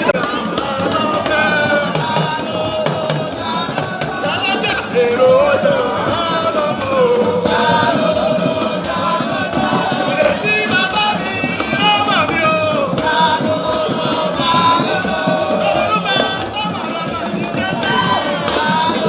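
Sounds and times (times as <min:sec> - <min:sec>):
shaken rattle beat: 0:00.0 - 0:19.0.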